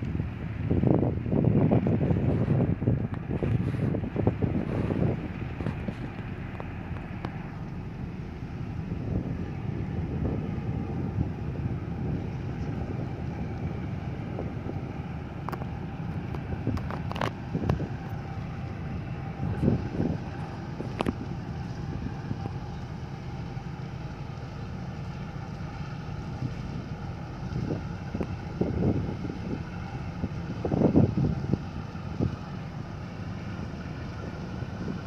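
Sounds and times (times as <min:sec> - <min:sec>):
diesel engine running: 0:00.0 - 0:35.0
wind buffeting microphone: 0:00.0 - 0:35.0.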